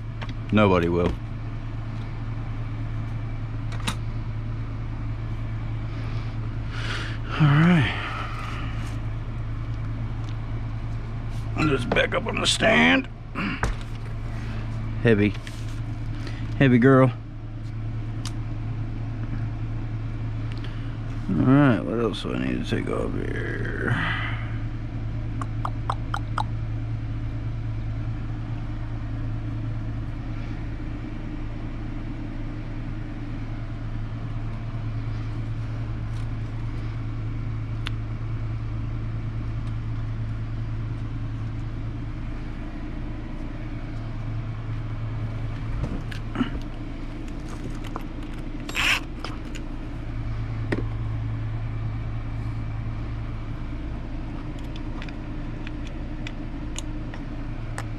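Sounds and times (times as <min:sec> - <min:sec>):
low background hum: 0:00.0 - 0:57.9.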